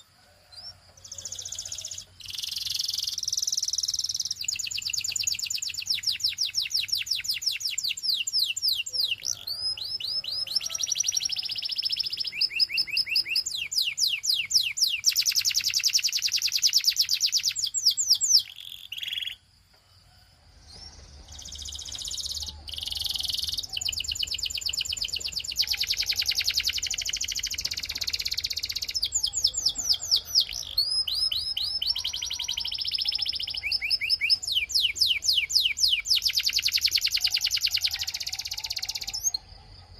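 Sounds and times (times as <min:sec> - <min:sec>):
canary singing trills: 0:00.0 - 0:19.5, 0:20.7 - 0:39.9.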